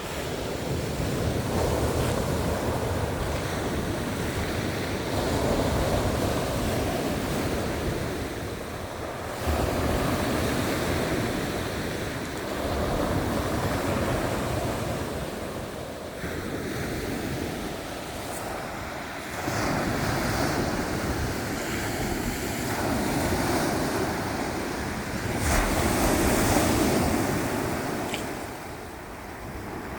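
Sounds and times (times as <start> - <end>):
waves breaking: 0.0 - 29.9
wind buffeting microphone: 0.0 - 29.9.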